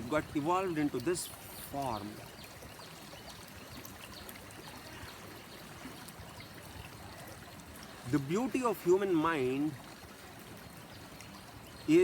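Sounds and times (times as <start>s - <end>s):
trickling flowing water: 0.0s - 12.0s.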